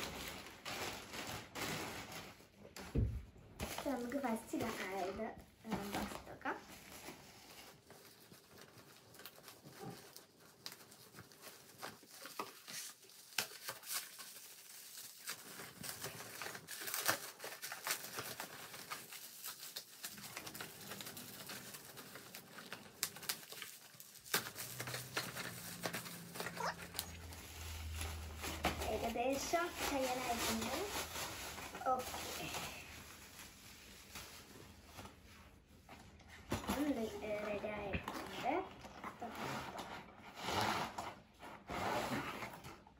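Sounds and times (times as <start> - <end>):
bubble wrap crinkling and tearing: 0.0 - 42.9.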